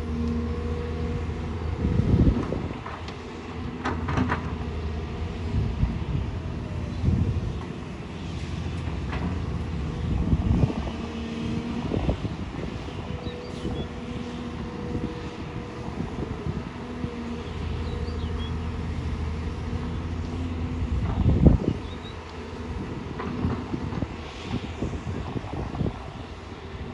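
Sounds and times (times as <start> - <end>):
excavator diesel engine: 0.0 - 26.9.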